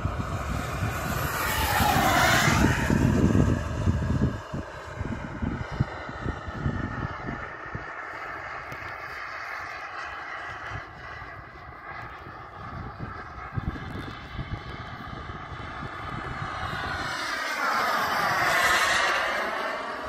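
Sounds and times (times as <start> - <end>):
model jet engine whine: 0.0 - 20.0
wind rumble on microphone: 0.0 - 20.0.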